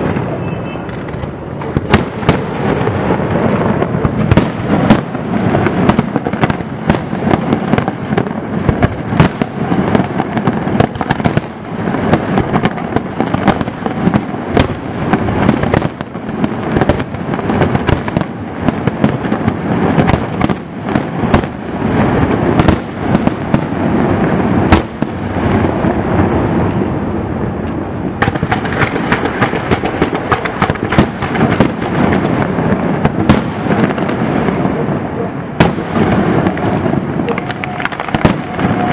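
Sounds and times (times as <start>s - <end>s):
rumbling crackling fireworks: 0.0s - 38.9s.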